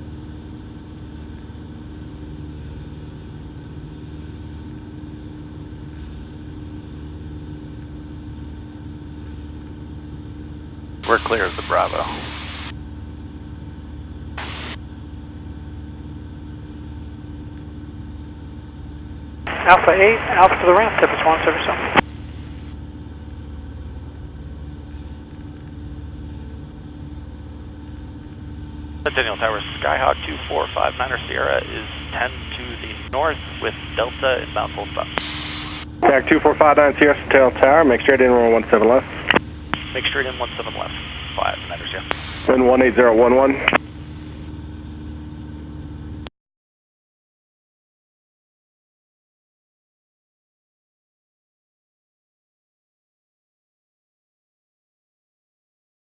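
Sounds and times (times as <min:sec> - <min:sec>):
airplane engine and propeller drone: 0:00.0 - 0:46.3.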